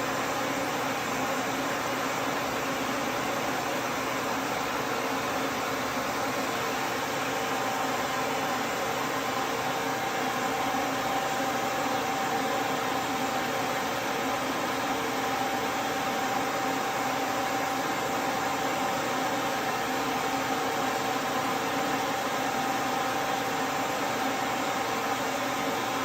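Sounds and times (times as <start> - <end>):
pet dryer blowing air: 0.0 - 26.0.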